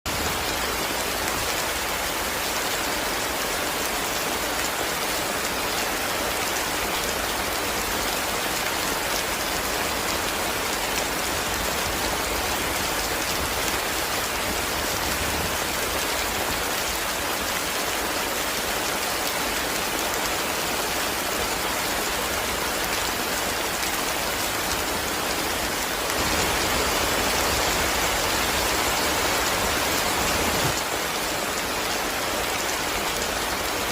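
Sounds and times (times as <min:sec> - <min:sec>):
heavy rain on a tin roof: 0:00.0 - 0:33.9.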